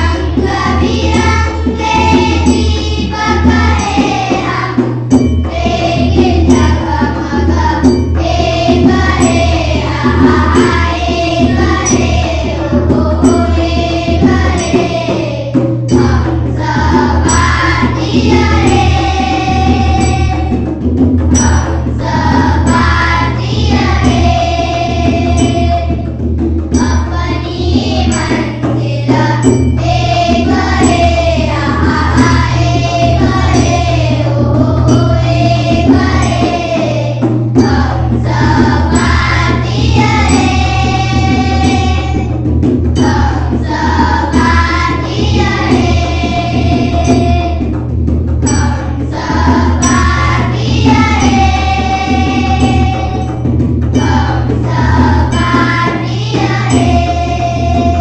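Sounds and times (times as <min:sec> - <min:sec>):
children singing in unison: 0:00.0 - 0:58.0
tabla: 0:00.0 - 0:58.0.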